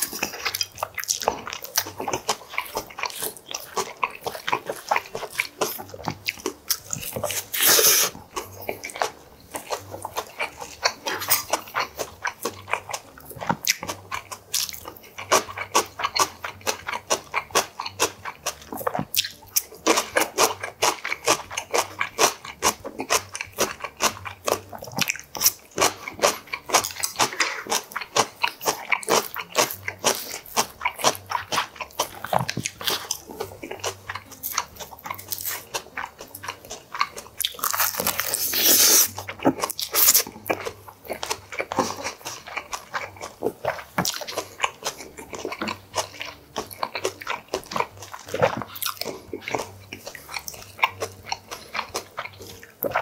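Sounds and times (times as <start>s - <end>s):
chewing and crunching food: 0.0s - 53.0s.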